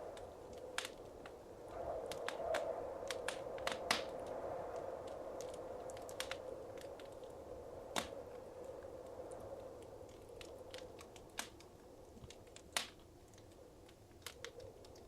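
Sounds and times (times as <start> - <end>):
fire soft steady hiss: 0.0 - 15.0
wood fire crackling and popping: 0.0 - 15.0.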